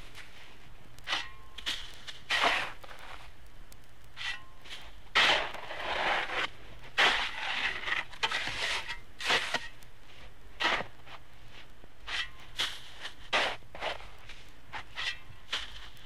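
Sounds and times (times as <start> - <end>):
shovel scraping loose material: 1.1 - 3.3, 4.2 - 16.0.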